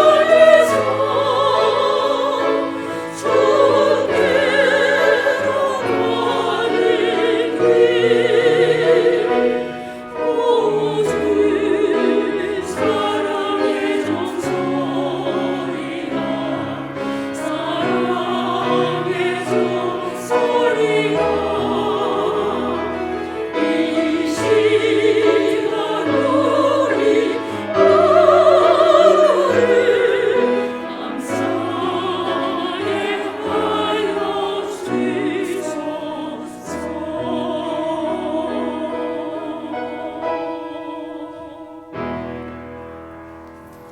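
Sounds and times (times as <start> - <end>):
women's ensemble singing a hymn: 0.0 - 43.9.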